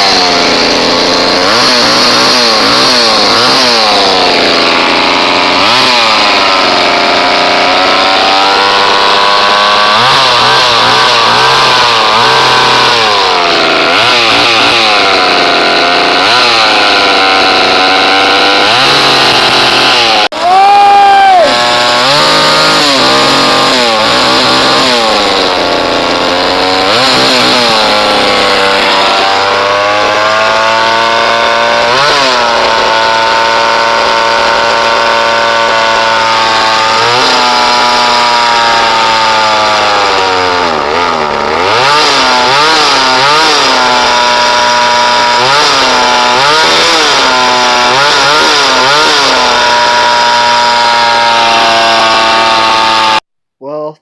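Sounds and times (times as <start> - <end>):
two-stroke engine revving: 0.0 - 53.3.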